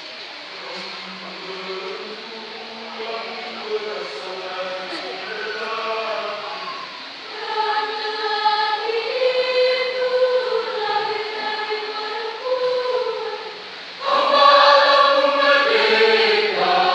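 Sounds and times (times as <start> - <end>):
choir singing long notes: 0.0 - 16.9.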